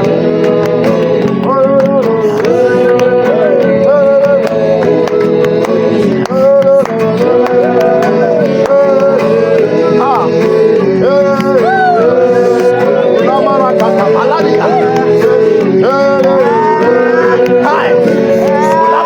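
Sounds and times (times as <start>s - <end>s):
instrumental accompaniment: 0.0s - 19.0s
steady percussion beat: 0.0s - 19.0s
voices singing long sliding notes: 0.0s - 19.0s.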